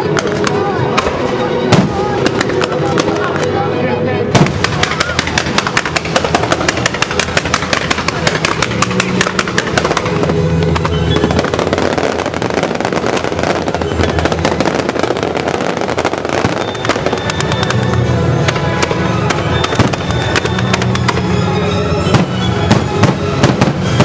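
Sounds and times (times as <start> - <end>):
fireworks crackling and banging: 0.0 - 3.6, 4.2 - 24.0
loud music: 0.0 - 24.0.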